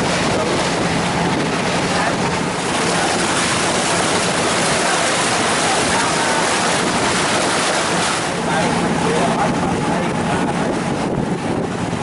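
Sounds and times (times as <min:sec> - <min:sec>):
boat engine hum: 0:00.0 - 0:12.0
rush of water: 0:00.0 - 0:12.0
wind: 0:00.0 - 0:12.0.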